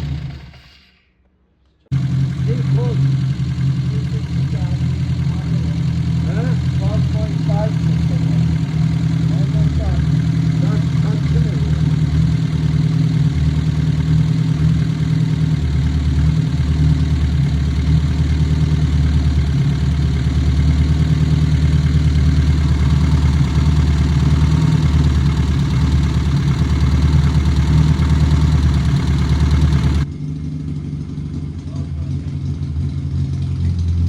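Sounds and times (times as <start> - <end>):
car engine idling: 0.0 - 0.6, 1.9 - 30.1.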